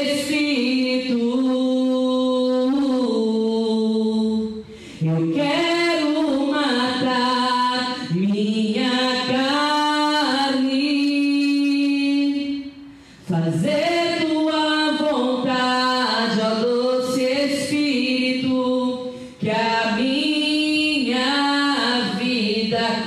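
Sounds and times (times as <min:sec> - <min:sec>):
woman singing unaccompanied: 0:00.0 - 0:23.0.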